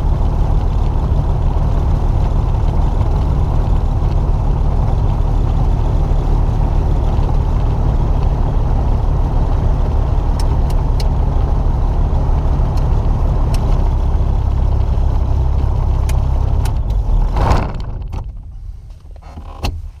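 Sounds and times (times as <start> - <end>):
small aircraft engine rumble: 0.0 - 20.0.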